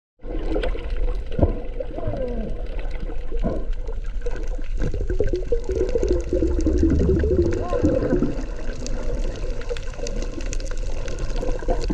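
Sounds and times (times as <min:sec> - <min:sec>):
underwater water rumble: 0:00.2 - 0:11.9
fish crunching on coral: 0:00.3 - 0:11.9.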